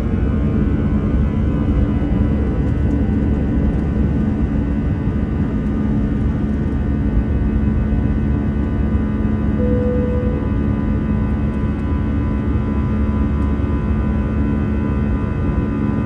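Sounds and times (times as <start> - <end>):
jet engines roaring in cabin: 0.0 - 16.0.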